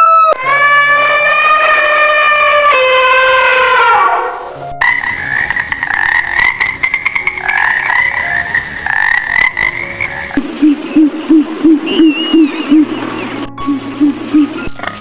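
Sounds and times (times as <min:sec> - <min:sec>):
high wavering animal call: 0:00.0 - 0:09.0, 0:09.7 - 0:14.6.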